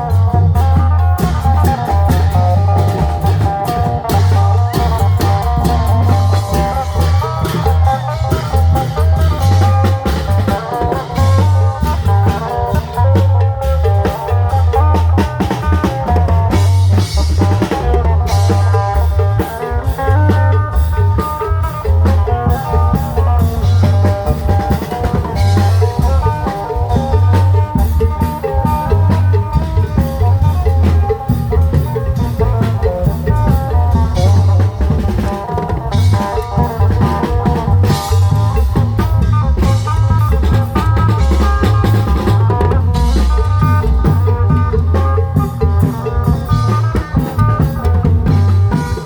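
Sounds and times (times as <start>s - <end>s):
drums and percussion: 0.0s - 49.0s
heavy bass line: 0.0s - 49.0s
steady melody: 0.0s - 49.0s.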